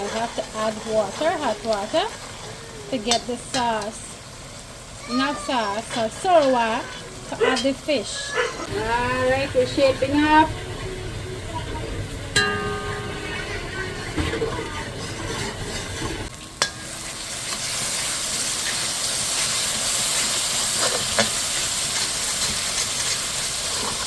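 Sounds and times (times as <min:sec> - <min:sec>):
spices sizzling in a pot: 0:00.0 - 0:24.0.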